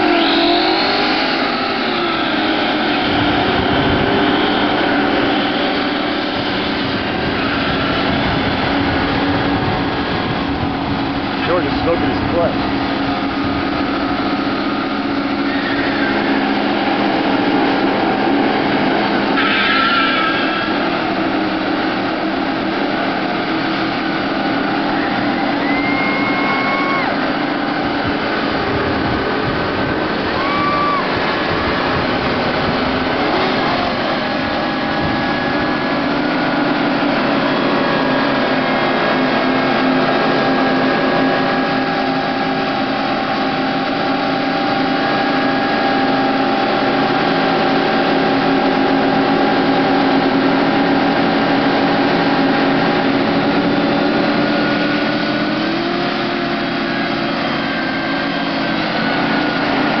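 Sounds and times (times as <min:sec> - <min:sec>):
car engines revving high: 0:00.0 - 1:00.0.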